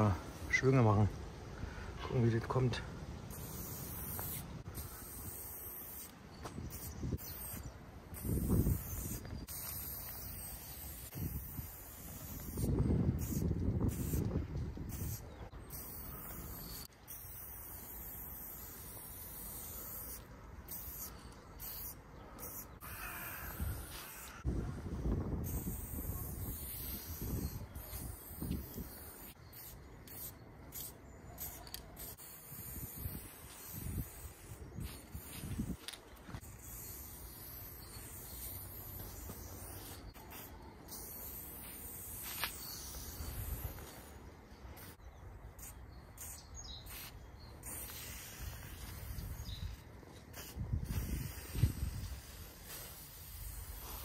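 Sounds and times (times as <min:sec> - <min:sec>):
spray paint can hissing: 0:03.3 - 0:24.5, 0:25.1 - 0:44.1, 0:44.8 - 0:45.0, 0:45.6 - 0:54.0.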